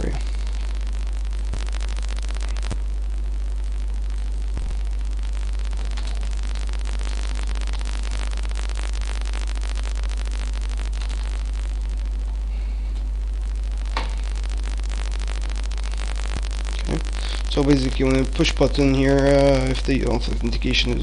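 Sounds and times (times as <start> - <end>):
low electrical hum: 0.0 - 21.0
microphone hiss and static: 0.0 - 21.0.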